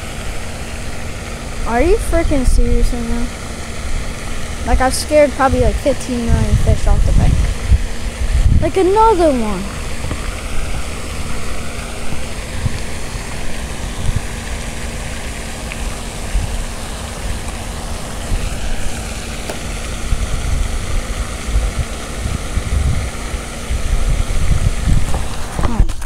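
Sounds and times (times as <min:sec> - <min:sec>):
fountain water rushing: 0:00.0 - 0:26.0
steady low hum: 0:00.0 - 0:26.0
uneven low rumbling: 0:00.0 - 0:26.0.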